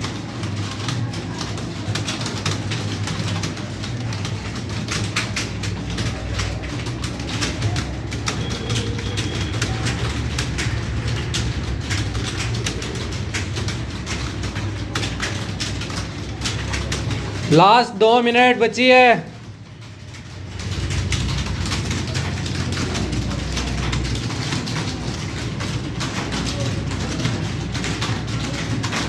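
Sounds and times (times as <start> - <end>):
keyboard typing clicks: 0.0 - 29.0.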